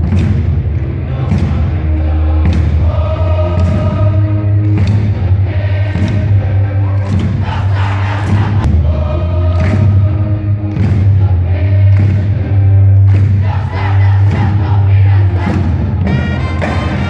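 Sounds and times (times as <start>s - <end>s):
heavy steady bass: 0.0s - 17.0s
loud music with singing: 0.0s - 17.0s.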